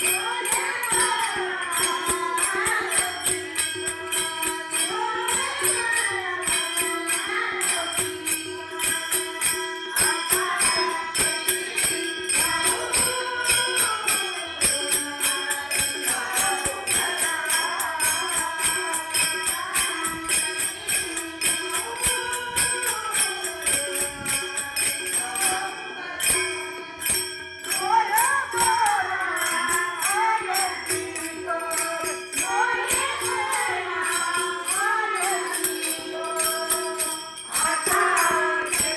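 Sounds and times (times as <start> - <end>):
steady percussion beat: 0.0 - 38.9
women's group singing devotional song: 0.0 - 38.9.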